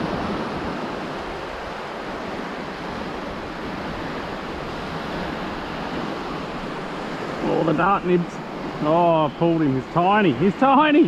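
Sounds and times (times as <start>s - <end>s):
small surf washing up beach: 0.0s - 11.0s.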